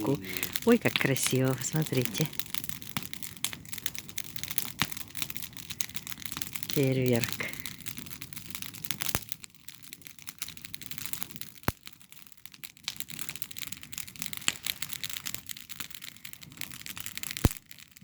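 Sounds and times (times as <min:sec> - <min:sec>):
campfire crackling: 0:00.0 - 0:18.0
sharp fire pops: 0:00.0 - 0:18.0.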